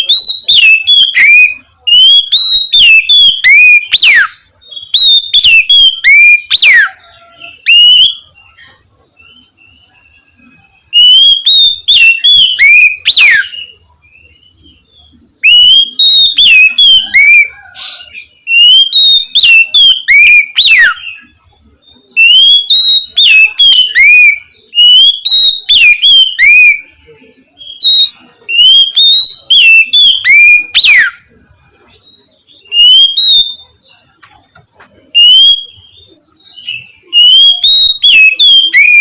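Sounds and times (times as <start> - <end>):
bird singing whistled phrases: 0.0 - 31.4, 32.0 - 34.1, 35.1 - 39.0.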